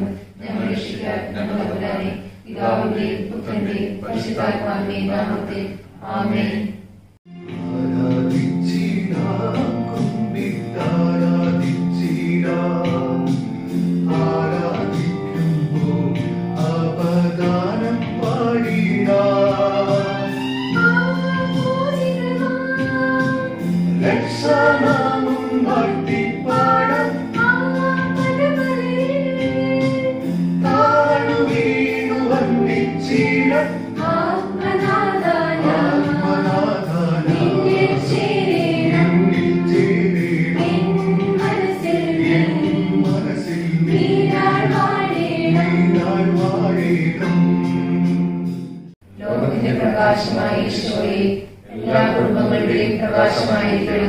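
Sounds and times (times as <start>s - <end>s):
group singing a hymn: 0.0s - 48.2s, 49.1s - 54.0s
held instrumental chords: 0.0s - 54.0s.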